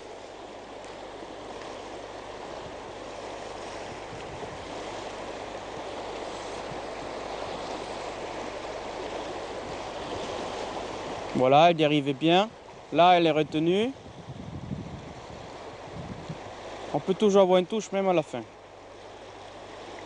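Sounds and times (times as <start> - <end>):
river water rushing over gravel: 0.0 - 20.0.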